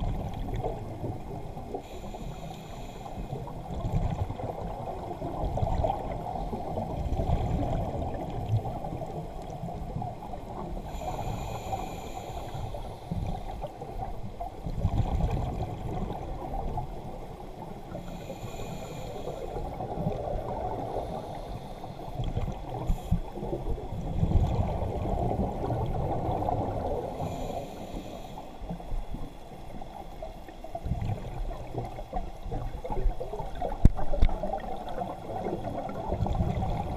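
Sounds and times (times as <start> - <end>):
muffled underwater rushing: 0.0 - 36.9.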